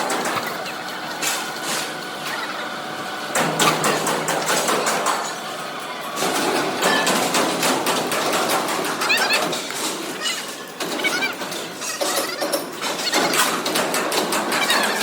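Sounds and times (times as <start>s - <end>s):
metallic knocks and clatter: 0.0s - 1.8s, 3.4s - 5.4s, 6.2s - 15.0s
machinery running: 0.0s - 15.0s.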